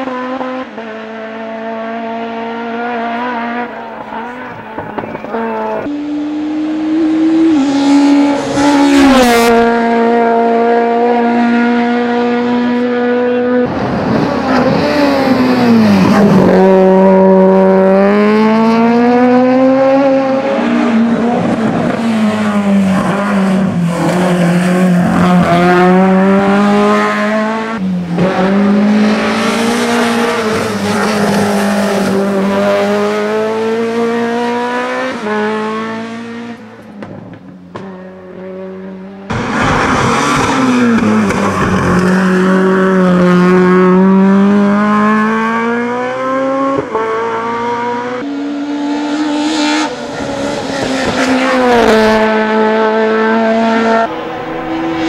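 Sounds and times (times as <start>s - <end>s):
car engine revving at high revs: 0.0s - 55.0s.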